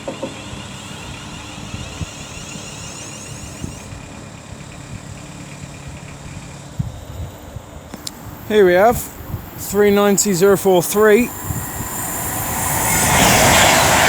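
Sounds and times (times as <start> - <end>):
high electric train whine: 0.0 - 14.0
steady low hum: 0.0 - 14.0.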